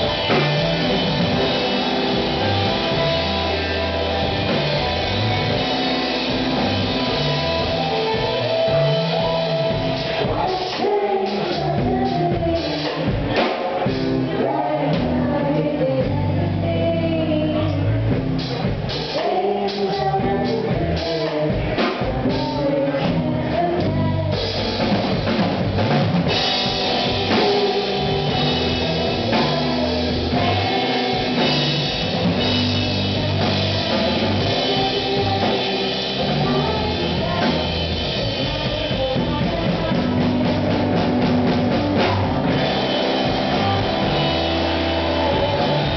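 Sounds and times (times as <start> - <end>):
live rock band: 0.0 - 45.9.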